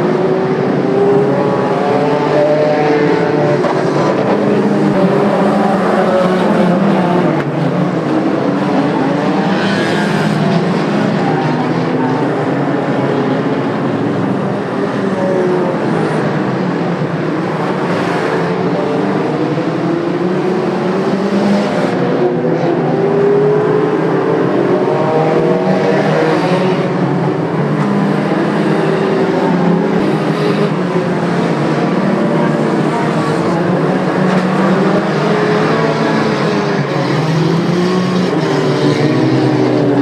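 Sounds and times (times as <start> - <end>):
racing car engines: 0.0 - 40.0.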